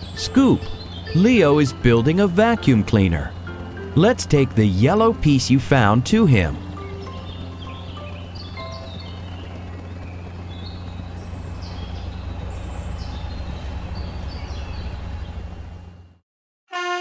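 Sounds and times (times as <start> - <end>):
birds chirping: 0.0 - 16.0
steady low hum: 0.0 - 16.2.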